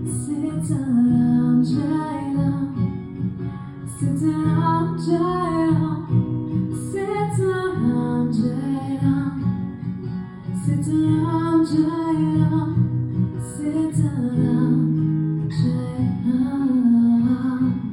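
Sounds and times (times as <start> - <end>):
woman singing wordlessly: 0.0 - 3.0, 3.8 - 9.7, 10.4 - 17.9
acoustic guitar strumming: 0.0 - 17.9.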